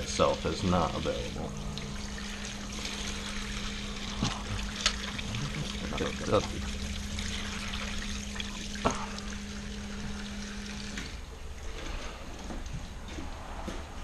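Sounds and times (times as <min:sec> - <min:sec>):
solvent trickling and splashing: 0:00.0 - 0:12.7
parts washer pump hum: 0:00.0 - 0:14.0.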